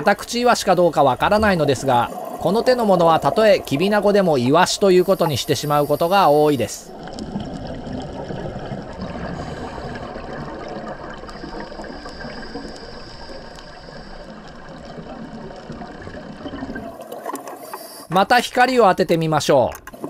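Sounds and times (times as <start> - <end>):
muffled underwater rushing: 0.0 - 18.1.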